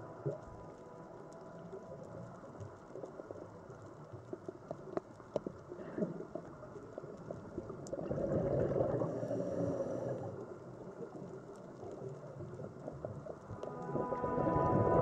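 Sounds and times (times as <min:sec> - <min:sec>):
small clicks and crackles: 0:00.0 - 0:14.3
muffled rush of water: 0:00.0 - 0:15.0.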